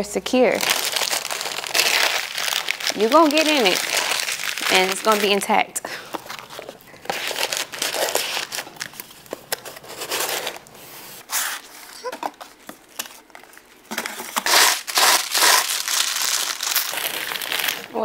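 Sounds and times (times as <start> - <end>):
paper and cardboard rustling: 0.6 - 17.9.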